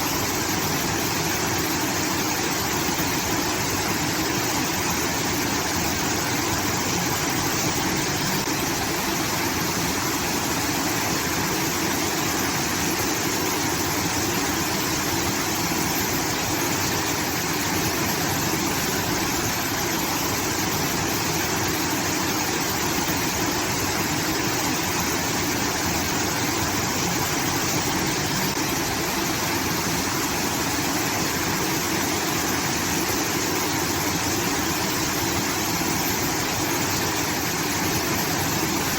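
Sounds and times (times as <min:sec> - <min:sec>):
water rushing from outlet: 0:00.0 - 0:38.9.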